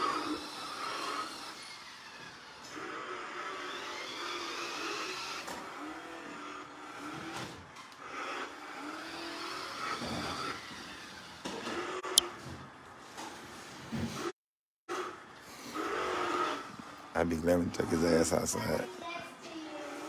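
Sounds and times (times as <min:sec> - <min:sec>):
toy engine-revving sound effects: 0:00.0 - 0:12.4, 0:14.9 - 0:20.0.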